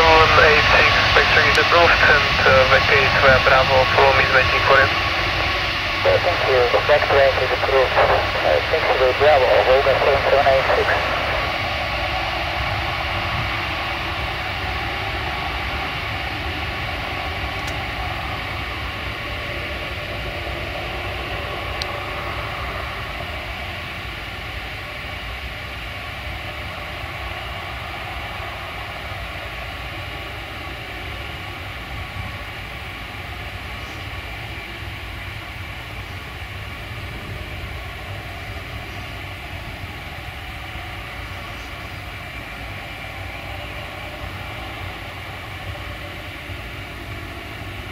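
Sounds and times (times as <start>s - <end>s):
jet engines rushing: 0.0s - 47.9s.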